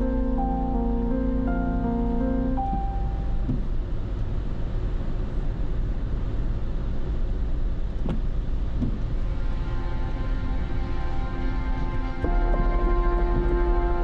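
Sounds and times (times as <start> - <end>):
car driving rumble: 0.0 - 14.0.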